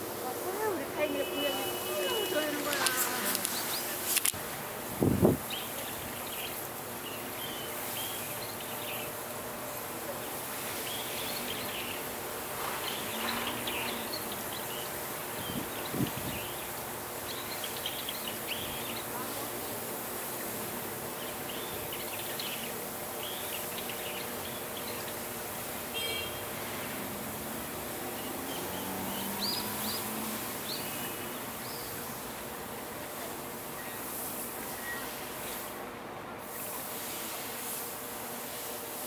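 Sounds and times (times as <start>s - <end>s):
background hiss: 0.0s - 39.0s.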